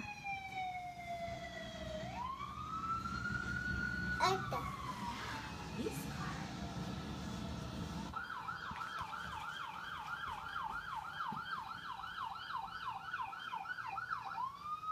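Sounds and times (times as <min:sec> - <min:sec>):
fire truck siren yelping: 0:00.0 - 0:14.9.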